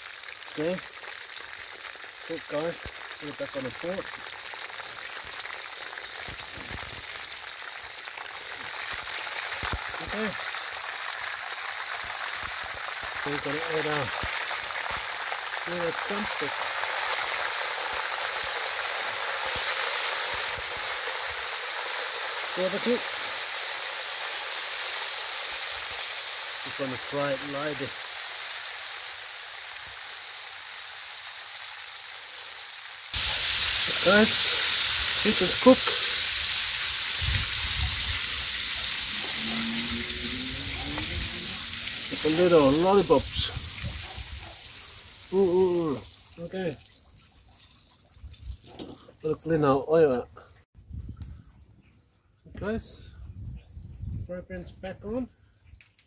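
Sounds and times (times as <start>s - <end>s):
oil sizzling and bubbling: 0.0s - 49.4s.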